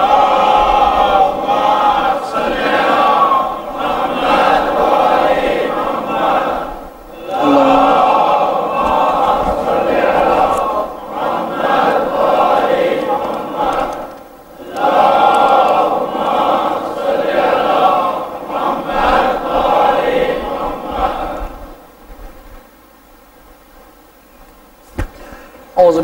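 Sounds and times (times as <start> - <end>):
congregation chanting in unison: 0.0 - 22.1.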